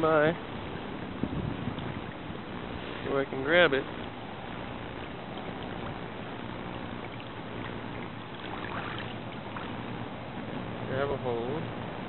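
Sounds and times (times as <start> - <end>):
water washing along kayak hull: 0.0 - 10.9
light water splashes: 0.1 - 10.8.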